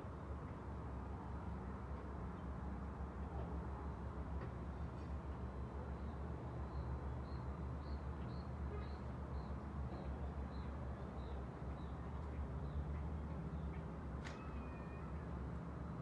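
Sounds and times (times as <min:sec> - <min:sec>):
low city rumble: 0:00.0 - 0:16.0.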